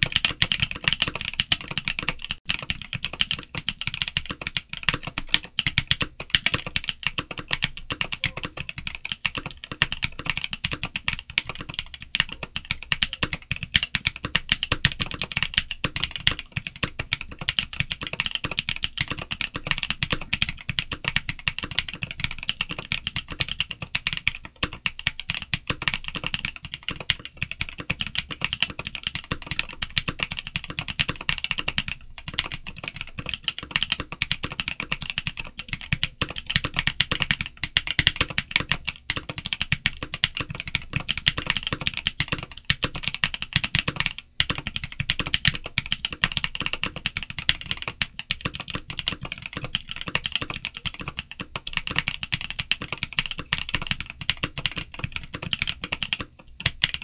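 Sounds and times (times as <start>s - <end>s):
fast typing on mechanical keyboard: 0.0s - 57.0s.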